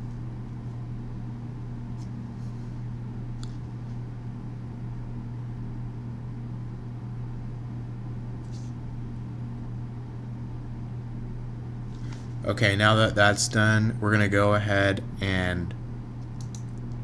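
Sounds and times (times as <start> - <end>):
room or fan hum: 0.0 - 17.0.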